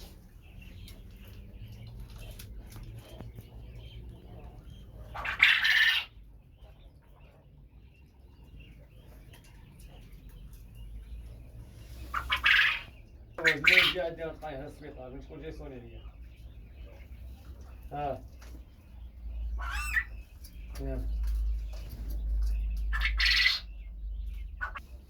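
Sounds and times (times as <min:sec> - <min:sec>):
quail chirping: 0:00.0 - 0:25.0.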